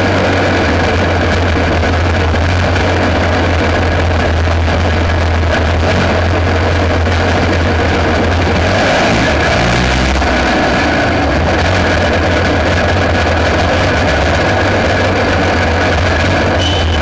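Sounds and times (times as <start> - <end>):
kart engine running: 0.0 - 17.0.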